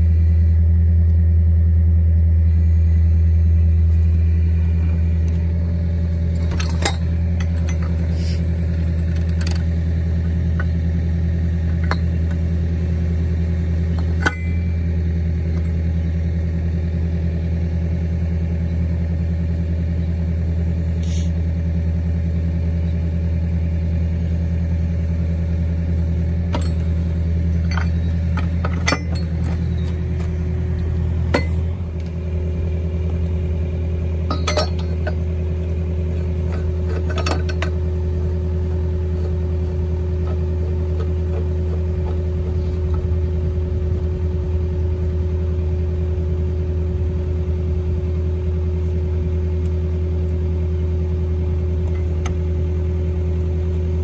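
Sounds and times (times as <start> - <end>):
engine running: 0.0 - 54.0
steady whine: 0.0 - 54.0.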